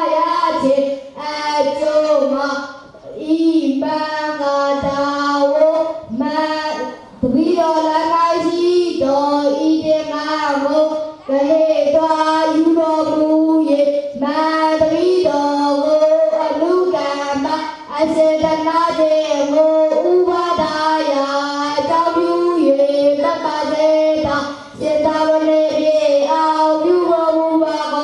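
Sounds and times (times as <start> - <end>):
boys chanting in unison: 0.0 - 28.0.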